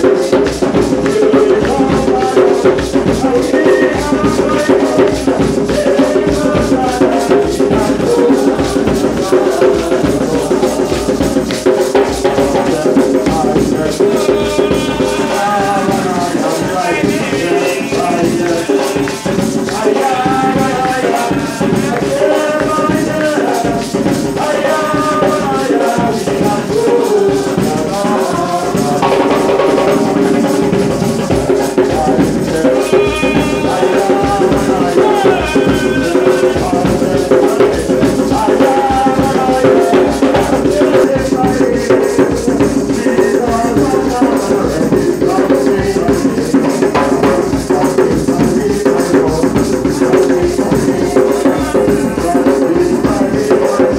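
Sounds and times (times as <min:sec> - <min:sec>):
congregation singing a hymn: 0:00.0 - 0:53.9
hand drum: 0:00.0 - 0:53.9
shaken percussion: 0:00.0 - 0:53.9.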